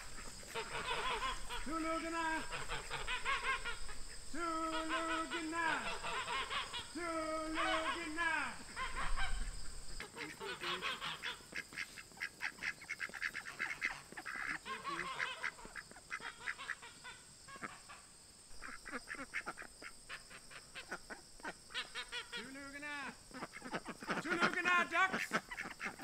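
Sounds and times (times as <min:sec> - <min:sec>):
ducks quacking: 0:00.0 - 0:26.0
geese honking: 0:00.0 - 0:26.0.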